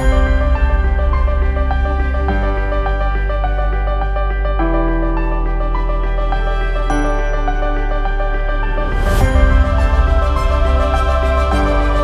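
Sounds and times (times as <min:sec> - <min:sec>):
slow new-age music: 0:00.0 - 0:12.0.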